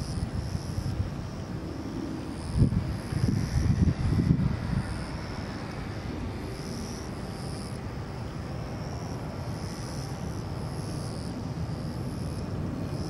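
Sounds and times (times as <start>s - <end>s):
distant jet engine rumble: 0.0s - 13.0s
high insect buzzing: 2.3s - 13.0s.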